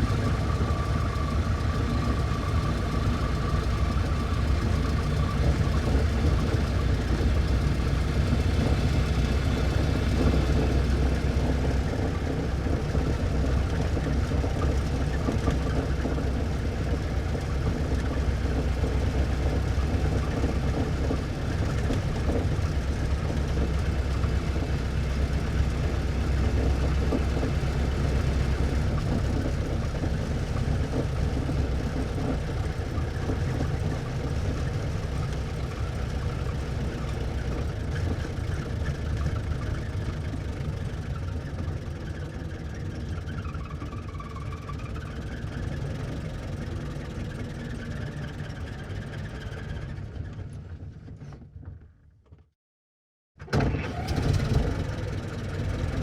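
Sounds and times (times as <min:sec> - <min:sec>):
car engine running: 0:00.0 - 0:47.6.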